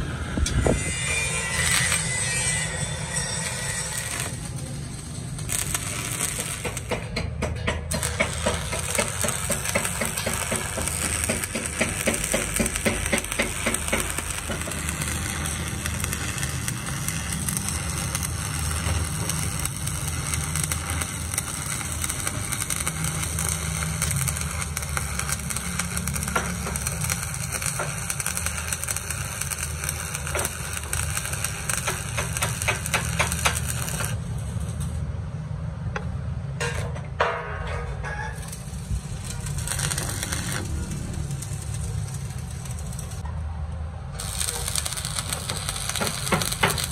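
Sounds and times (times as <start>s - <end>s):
welding arc crackling and hissing: 0.0s - 35.1s, 38.4s - 43.2s, 44.1s - 46.9s.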